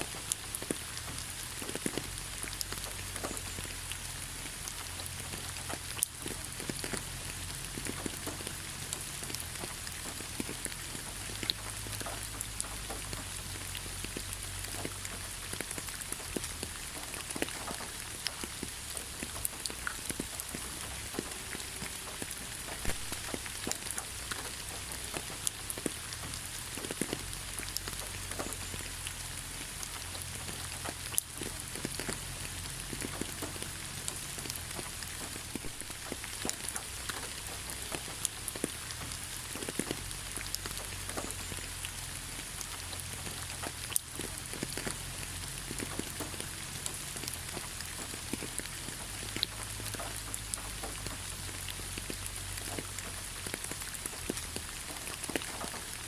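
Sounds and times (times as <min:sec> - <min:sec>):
rain pattering on foliage: 0:00.0 - 0:56.0.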